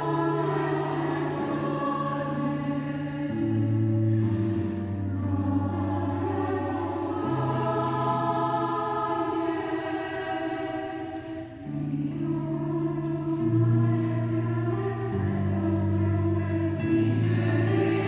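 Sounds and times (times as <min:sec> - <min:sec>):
mixed choir singing chords: 0:00.0 - 0:18.0.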